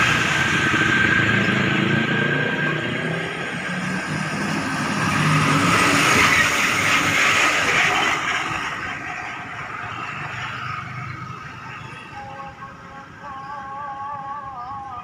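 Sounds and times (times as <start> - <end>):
bus passing by: 0.0 - 15.0.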